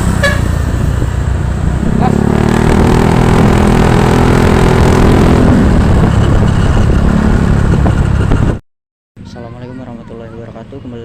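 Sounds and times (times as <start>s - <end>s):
vehicle engine and road noise: 0.0s - 8.6s, 9.2s - 11.0s.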